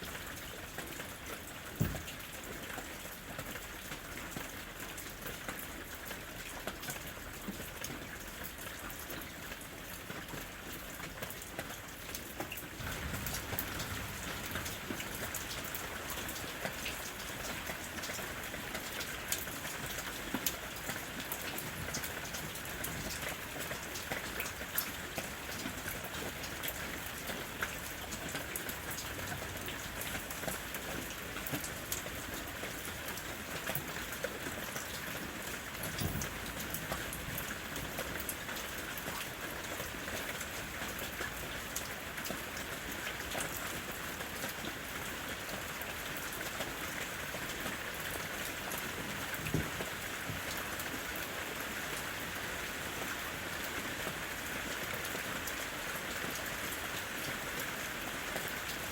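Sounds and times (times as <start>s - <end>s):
rain pattering in forest: 0.0s - 58.9s.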